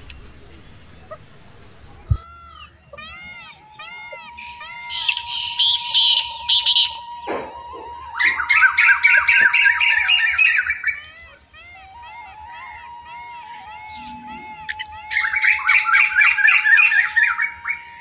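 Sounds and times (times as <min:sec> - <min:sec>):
rapid chattering bird calls: 0:00.0 - 0:07.1, 0:07.8 - 0:17.9
birds squawking harshly: 0:00.0 - 0:18.0.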